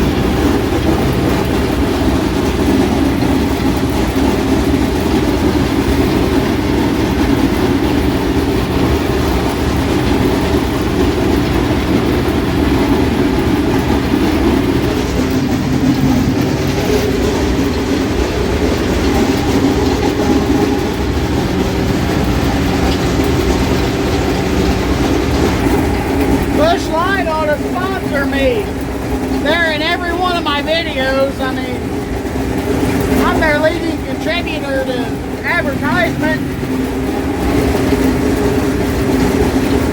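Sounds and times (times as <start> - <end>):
tractor and mower machinery din: 0.0 - 39.9.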